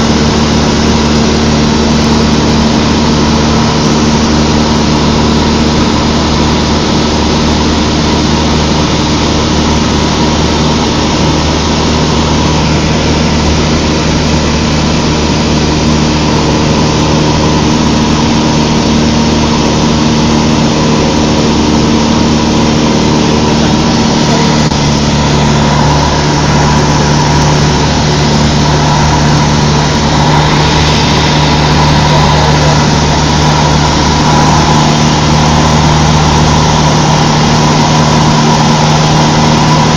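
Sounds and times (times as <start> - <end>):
airplane engine droning in cabin: 0.0 - 39.9.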